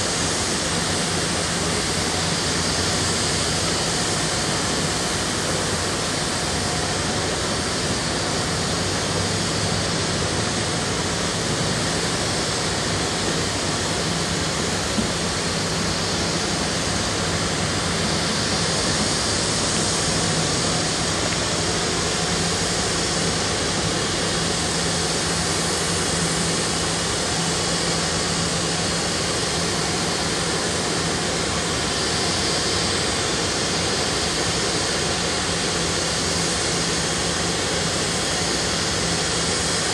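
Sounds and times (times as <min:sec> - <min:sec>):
low machine hum: 0:00.0 - 0:39.9
paper mill rushing roar: 0:00.0 - 0:39.9.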